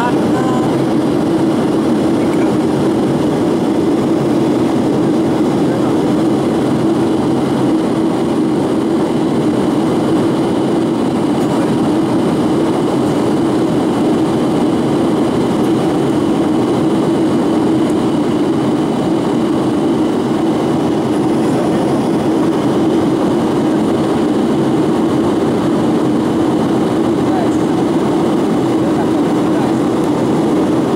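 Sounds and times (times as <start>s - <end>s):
aircraft cabin engine drone: 0.0s - 30.9s.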